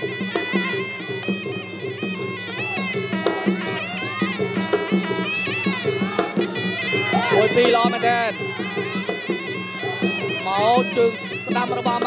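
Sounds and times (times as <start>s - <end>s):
reed oboe melody: 0.0s - 12.0s
steady drum beats: 0.0s - 12.0s.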